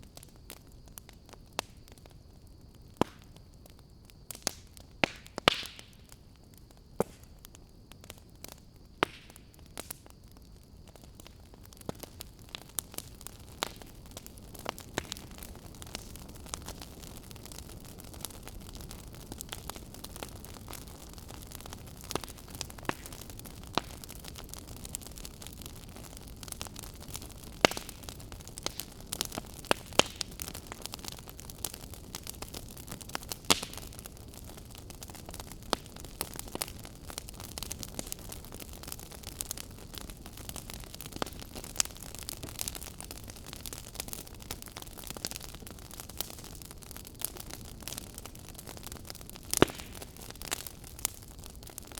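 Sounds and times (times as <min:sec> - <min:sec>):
fire crackling: 0:00.0 - 0:51.9.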